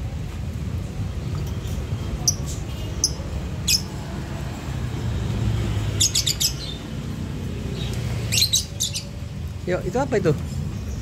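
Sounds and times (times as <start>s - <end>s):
small birds chirping: 1.1s - 4.0s, 5.0s - 11.0s.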